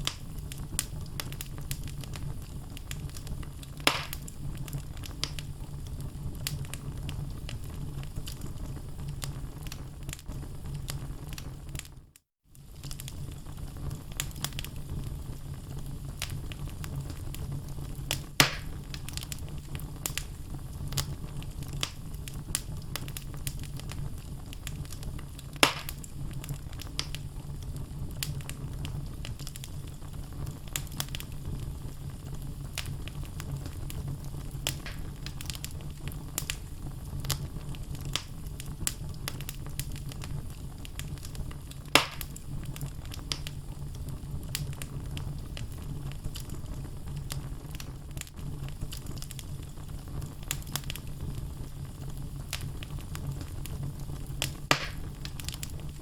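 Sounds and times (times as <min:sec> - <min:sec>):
logs crackling and snapping: 0:00.0 - 0:11.9, 0:12.5 - 0:14.8, 0:16.2 - 0:32.0, 0:32.6 - 0:56.0
loud fire pops: 0:00.0 - 0:56.0
low rumble of flames: 0:00.0 - 0:56.0.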